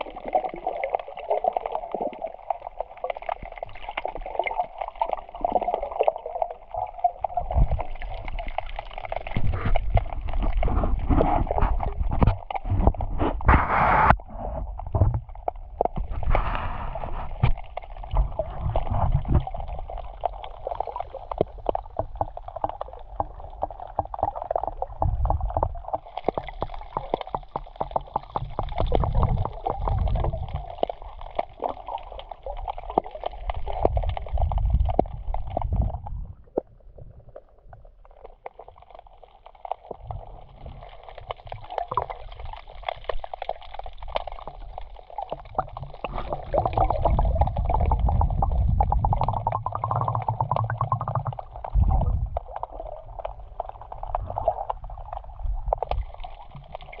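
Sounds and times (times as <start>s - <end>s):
dense underwater crackling: 0.0s - 57.0s
muffled underwater gurgling and sloshing: 0.0s - 57.0s.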